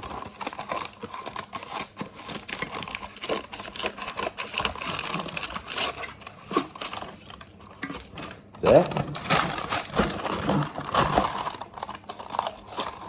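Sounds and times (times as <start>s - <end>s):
scissors cutting paper: 0.0s - 7.4s, 8.6s - 13.0s
baking paper crinkling: 0.0s - 13.0s.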